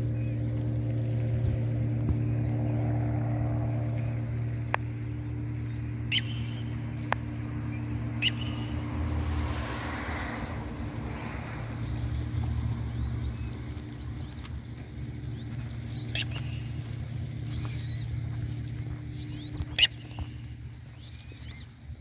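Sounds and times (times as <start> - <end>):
birds chirping: 0.0 - 22.0
low engine drone: 0.0 - 22.0.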